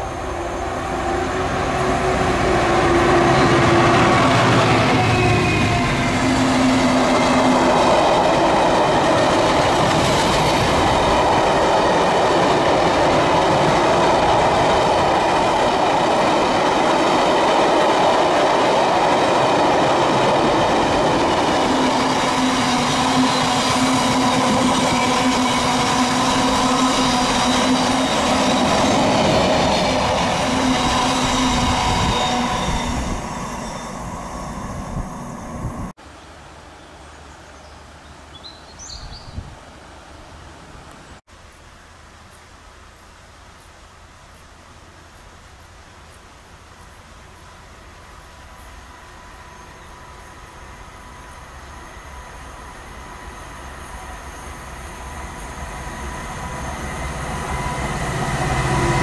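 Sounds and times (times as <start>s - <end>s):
train wheels rumbling on rails: 0.0s - 35.9s, 47.6s - 59.0s.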